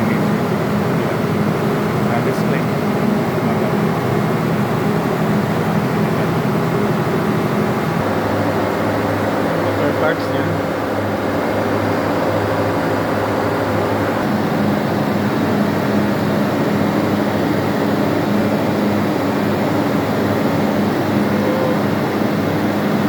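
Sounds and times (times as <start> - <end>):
engine-room machinery drone: 0.0 - 23.0.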